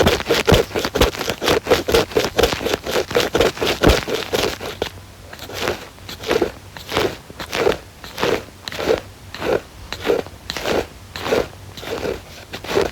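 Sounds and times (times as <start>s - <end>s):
ear pick scraping microphone: 0.0s - 12.9s.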